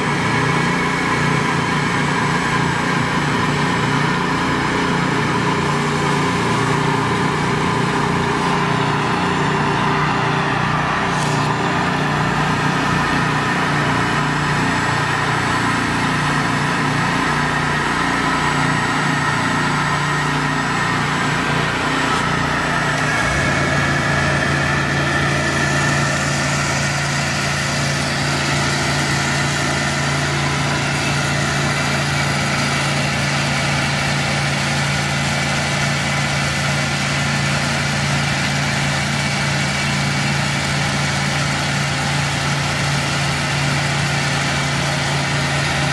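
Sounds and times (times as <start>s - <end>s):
engine low rumble: 0.0s - 45.9s.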